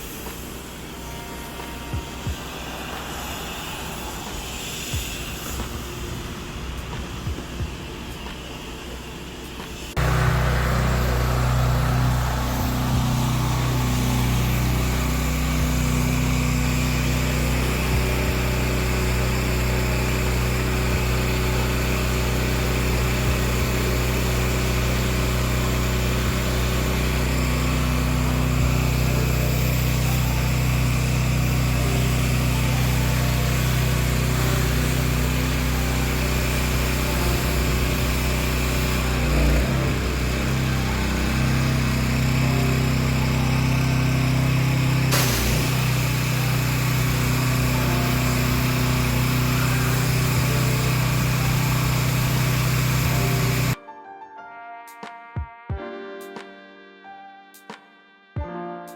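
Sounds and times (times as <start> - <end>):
pressure washer engine running: 0.0 - 53.8.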